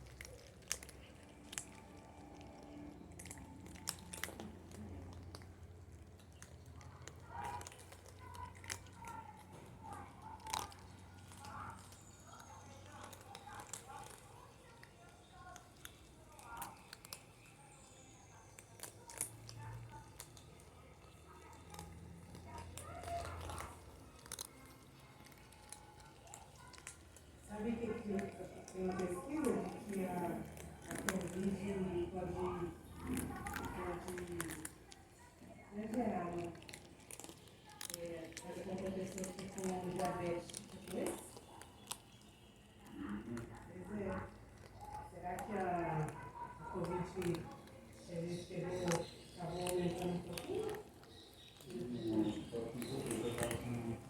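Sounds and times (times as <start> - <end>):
cats chewing dry kibble: 0.0 - 54.0.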